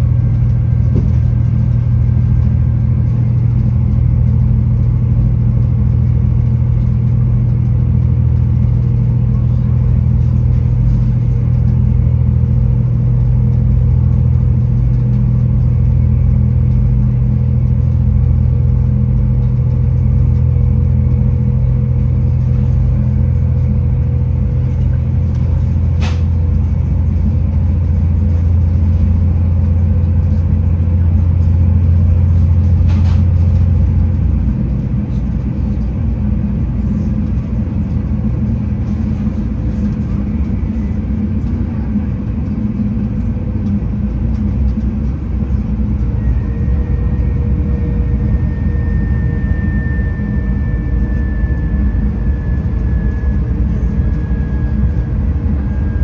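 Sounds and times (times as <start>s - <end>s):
faint steady whine: 0.0s - 56.0s
low engine drone: 0.0s - 56.0s
wheel-on-rail rumble: 0.0s - 56.0s.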